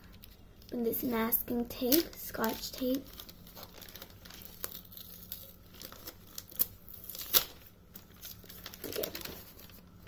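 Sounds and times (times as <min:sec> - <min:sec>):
plastic mailer bag crinkling: 0:00.0 - 0:10.0.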